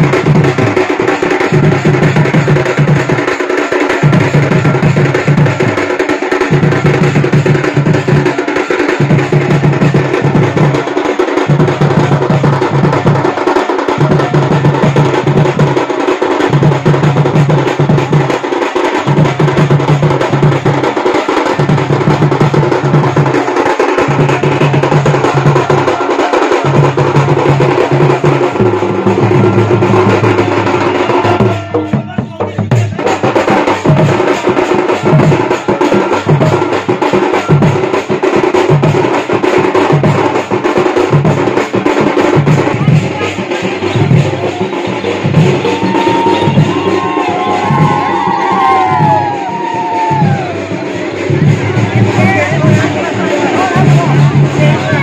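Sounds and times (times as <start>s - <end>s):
loud drum pattern: 0.0s - 55.0s.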